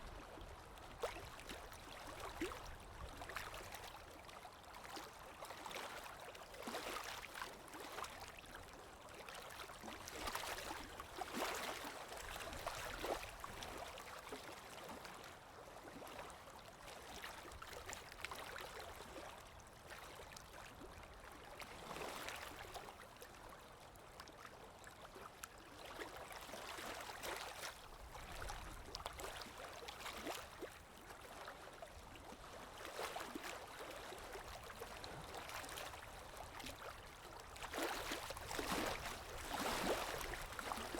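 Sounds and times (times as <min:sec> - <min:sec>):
water lapping and splashing: 0:00.0 - 0:40.9.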